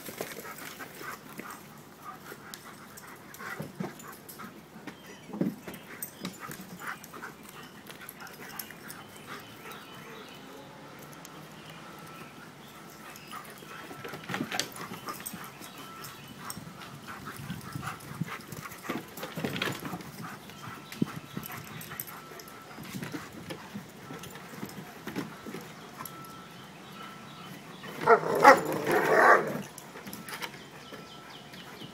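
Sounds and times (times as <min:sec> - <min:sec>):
dogs playing noises: 0:00.0 - 0:31.9.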